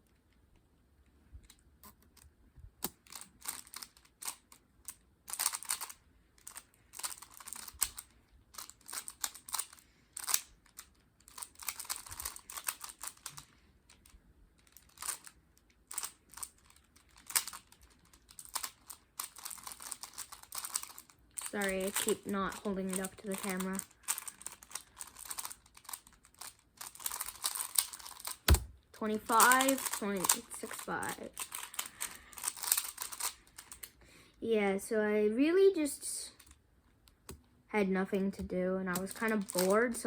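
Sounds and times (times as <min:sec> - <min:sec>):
plastic puzzle cube clicking: 0:01.4 - 0:33.9.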